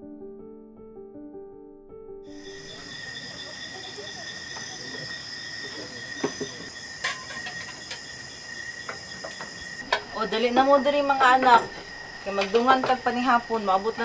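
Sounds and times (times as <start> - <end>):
crickets trilling: 2.3 - 14.0.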